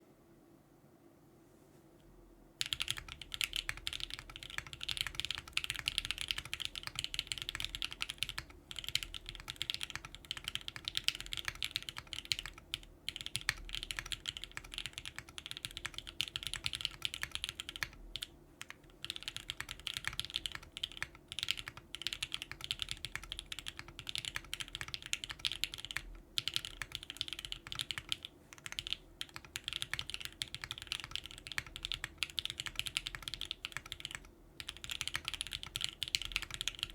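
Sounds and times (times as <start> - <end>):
mechanical keyboard typing: 2.6 - 36.9.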